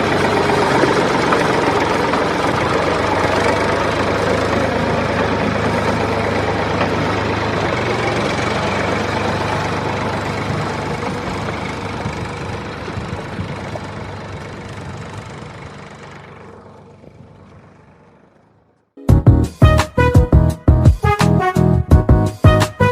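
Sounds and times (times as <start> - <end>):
tractor engine idling: 0.0 - 21.1.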